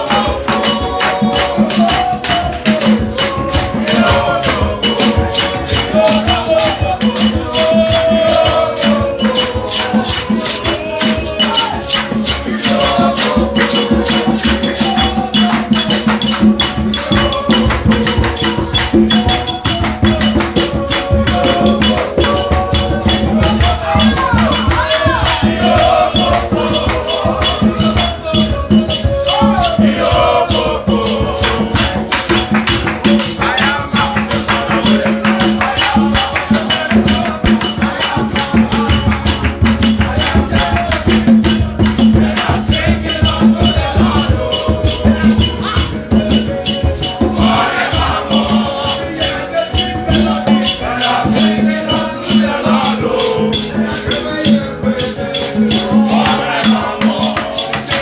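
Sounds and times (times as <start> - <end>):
shaker rhythm: 0.0 - 58.0.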